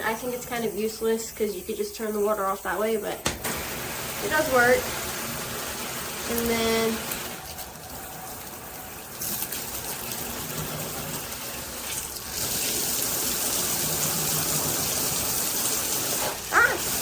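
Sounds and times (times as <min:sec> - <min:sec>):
water spraying from shower head: 0:01.6 - 0:17.0.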